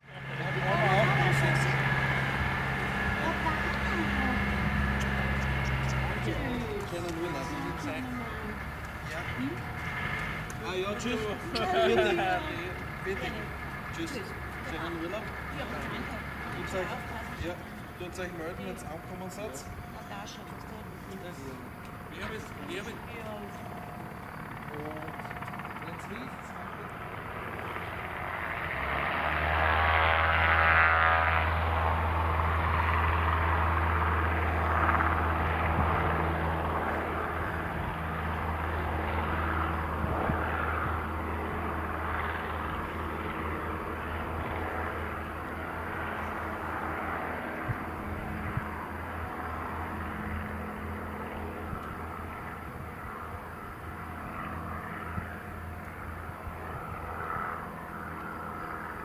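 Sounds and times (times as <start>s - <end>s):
propeller plane engine passing: 0.0s - 59.0s.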